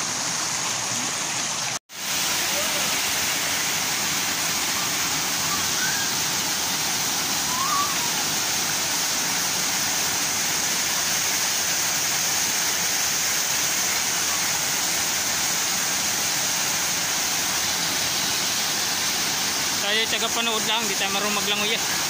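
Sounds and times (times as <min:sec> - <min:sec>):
waterfall pouring onto rocks: 0:00.0 - 0:22.0.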